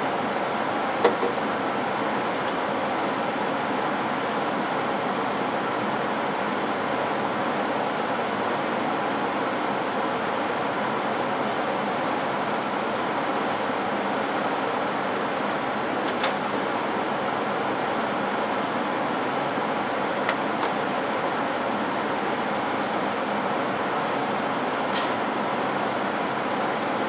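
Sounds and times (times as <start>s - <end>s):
blower fan rushing airflow: 0.0s - 27.0s.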